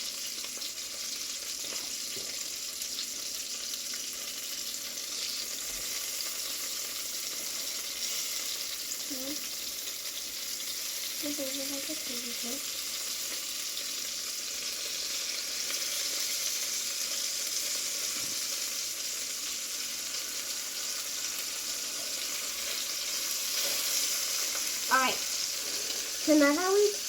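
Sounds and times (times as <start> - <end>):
chicken frying with sizzle: 0.0 - 27.0.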